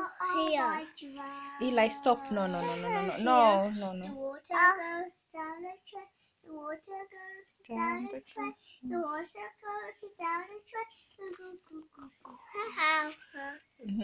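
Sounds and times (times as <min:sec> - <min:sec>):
girl singing: 0:00.0 - 0:03.4, 0:04.0 - 0:13.6.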